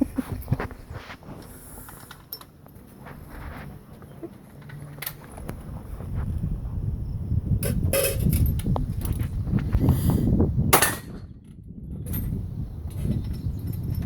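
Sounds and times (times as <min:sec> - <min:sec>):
steady low rumble: 0:02.5 - 0:14.0.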